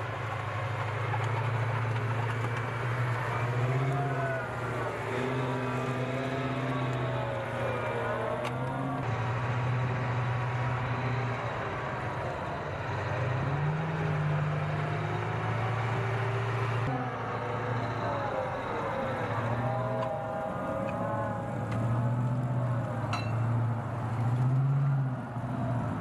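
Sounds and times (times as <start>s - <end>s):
tracked vehicle diesel engine: 0.0s - 26.0s.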